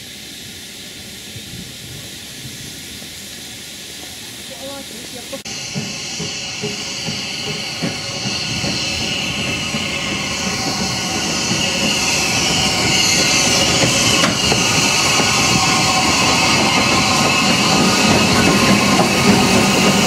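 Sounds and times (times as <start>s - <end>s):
steam hissing: 0.0s - 20.0s
train wheels rumbling on rails: 0.0s - 20.0s.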